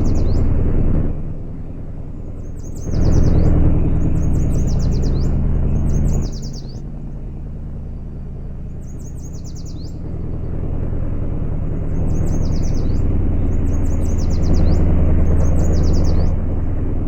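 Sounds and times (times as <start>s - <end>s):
birds chirping: 0.0s - 0.7s, 1.3s - 10.5s, 11.6s - 16.6s
vehicle engine rumbling: 0.0s - 17.0s.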